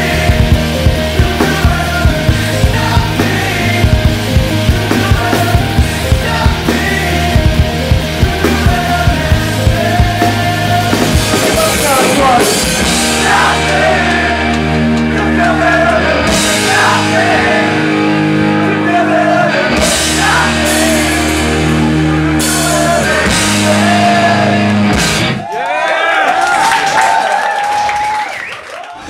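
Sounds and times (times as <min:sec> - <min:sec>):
person singing: 0:00.0 - 0:25.0
rock band playing: 0:00.0 - 0:25.5.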